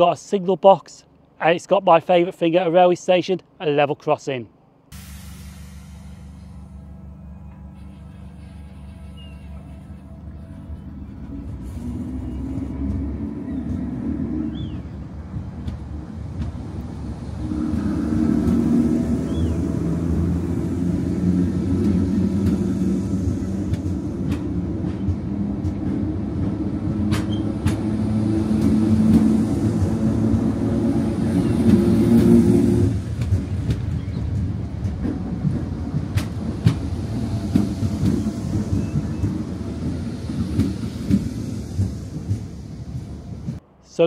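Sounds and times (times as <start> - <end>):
electric train motors humming: 4.5 - 44.0.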